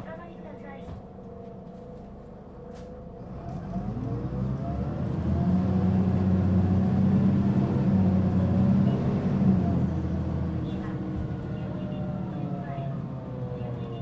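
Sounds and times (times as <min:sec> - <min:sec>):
bus diesel engine: 0:00.0 - 0:14.0.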